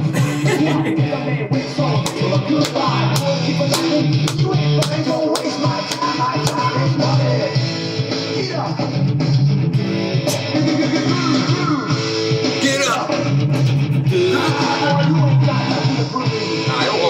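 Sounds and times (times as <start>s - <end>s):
person singing: 0.0s - 7.6s, 10.3s - 17.0s
funk metal song from vinyl: 0.0s - 17.0s.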